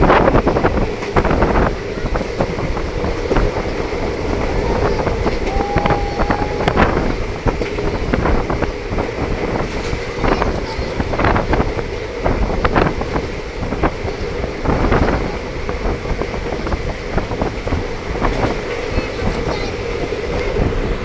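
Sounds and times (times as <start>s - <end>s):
train wheels on rails: 0.0s - 21.0s
wind buffeting microphone: 0.0s - 21.0s.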